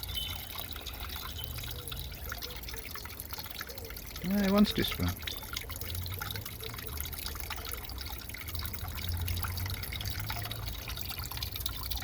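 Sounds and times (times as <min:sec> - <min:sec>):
water drips: 0:00.0 - 0:12.0
water trickling: 0:00.0 - 0:12.0.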